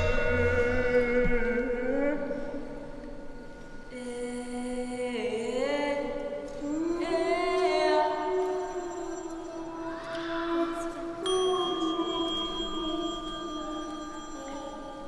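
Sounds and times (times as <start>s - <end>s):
voice chanting long held notes: 0.0s - 3.2s, 3.9s - 15.0s.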